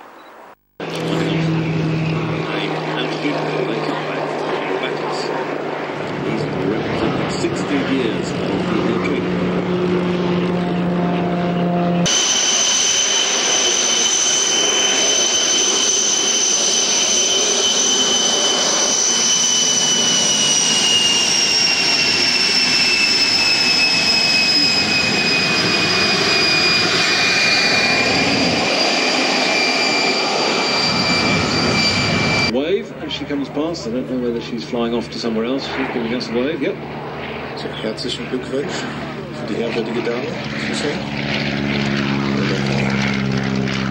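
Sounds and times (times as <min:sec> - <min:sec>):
jet engine high whine: 0:00.8 - 0:43.9.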